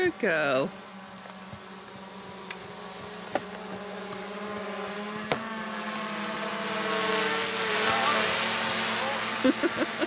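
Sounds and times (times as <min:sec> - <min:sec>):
drone rotors buzzing: 0:00.0 - 0:10.0.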